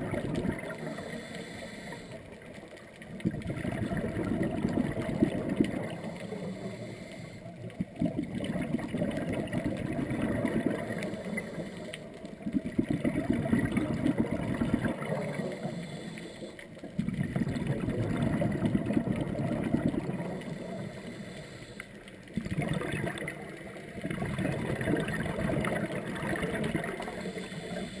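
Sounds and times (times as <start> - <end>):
underwater exhaled bubbles: 0.0 - 28.0.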